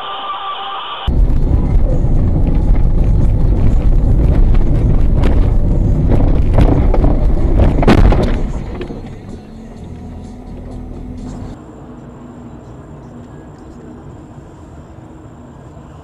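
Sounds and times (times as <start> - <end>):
car cabin road rumble: 1.1 - 16.0.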